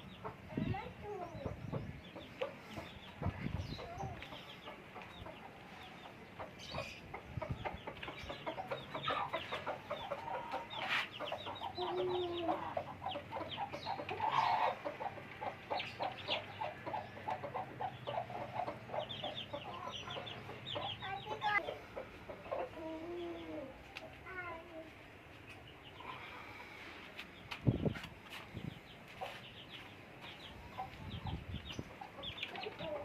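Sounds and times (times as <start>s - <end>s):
chicks peeping: 0.0s - 24.9s, 25.5s - 33.0s
hens clucking: 0.1s - 24.2s, 25.5s - 33.0s.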